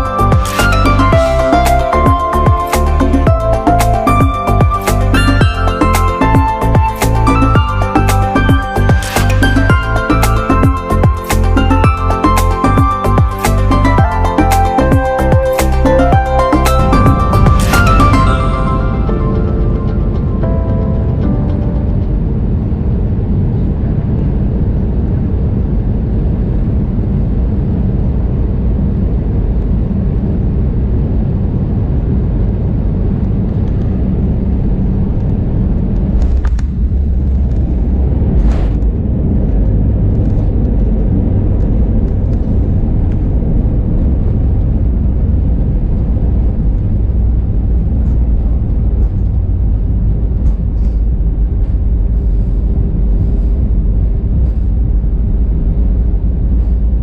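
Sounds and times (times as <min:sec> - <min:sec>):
airplane cabin engine rumble: 0:00.0 - 0:57.0
heavy low landing rumble: 0:00.0 - 0:57.0.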